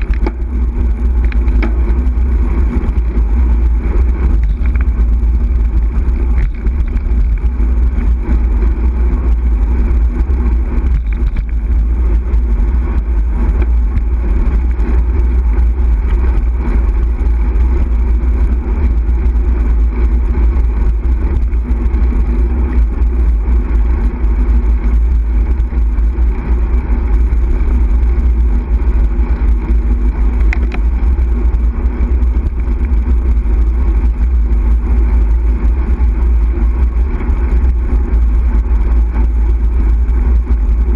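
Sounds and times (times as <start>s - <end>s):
tyre road noise: 0.0s - 40.9s
wind rumble on microphone: 0.0s - 40.9s.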